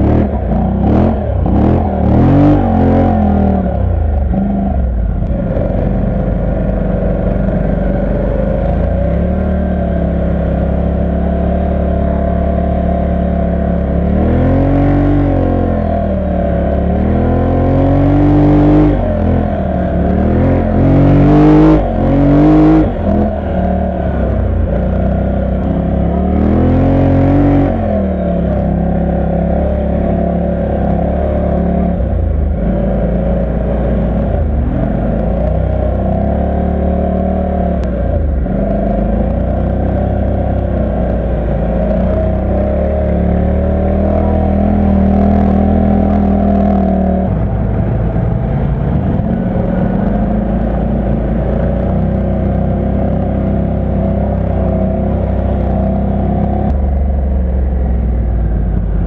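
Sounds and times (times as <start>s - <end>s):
atv engine running under load: 0.0s - 59.0s.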